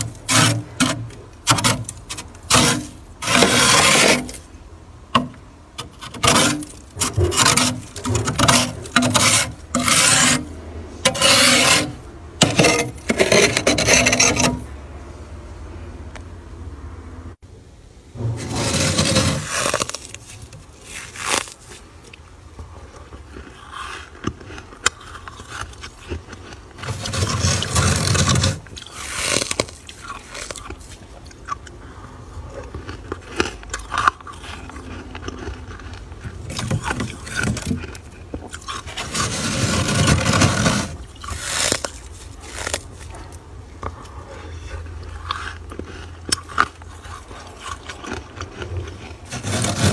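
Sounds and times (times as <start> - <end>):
frost being scraped: 0.0 - 4.5, 5.8 - 14.7, 18.2 - 22.0, 23.4 - 31.1, 33.3 - 43.3, 44.6 - 49.9.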